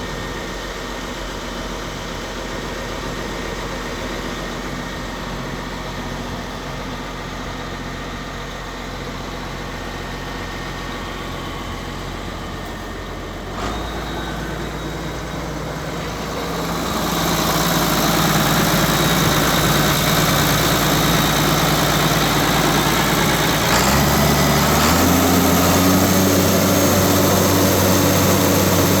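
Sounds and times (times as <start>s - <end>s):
tractor diesel engine: 0.0s - 29.0s.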